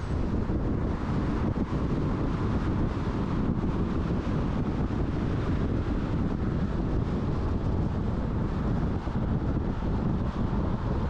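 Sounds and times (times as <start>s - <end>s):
road noise: 0.0s - 11.0s
wind buffeting microphone: 0.0s - 11.0s.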